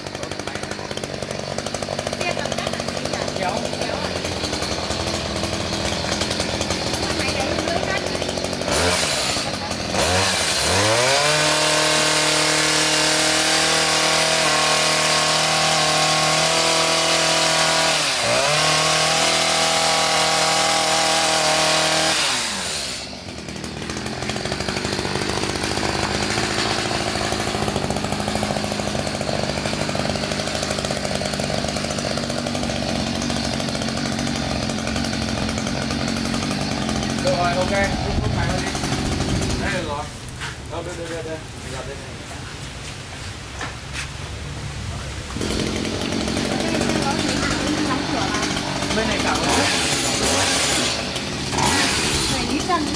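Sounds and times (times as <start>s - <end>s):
hedge trimmer engine: 0.0s - 42.4s, 44.8s - 52.9s.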